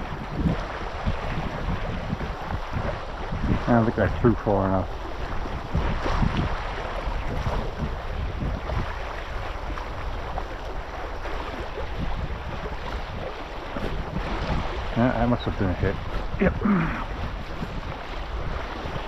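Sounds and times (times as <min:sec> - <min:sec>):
water lapping and splashing: 0:00.0 - 0:19.0
wind buffeting microphone: 0:00.0 - 0:19.0.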